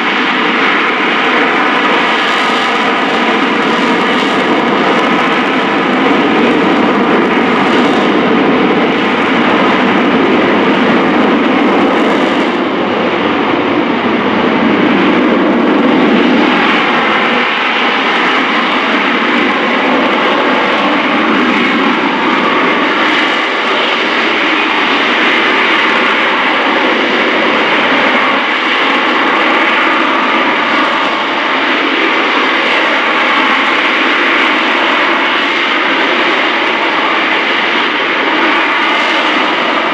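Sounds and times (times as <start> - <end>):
jet engine roaring with whine: 0.0 - 39.9.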